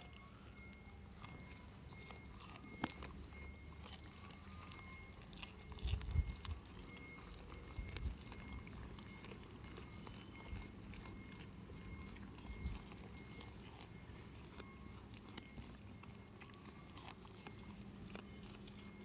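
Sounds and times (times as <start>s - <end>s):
goats chewing bean pods: 0.0s - 19.0s
crunching clicks: 0.1s - 19.0s.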